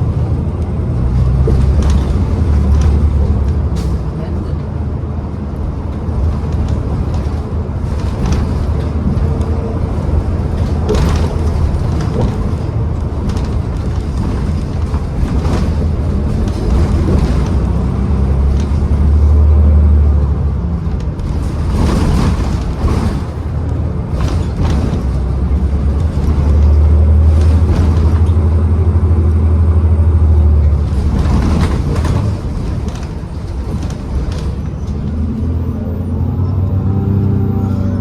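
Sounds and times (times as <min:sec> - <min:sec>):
bus body knocks and rattles: 0:00.0 - 0:36.1
bus drivetrain rumble: 0:00.0 - 0:38.0.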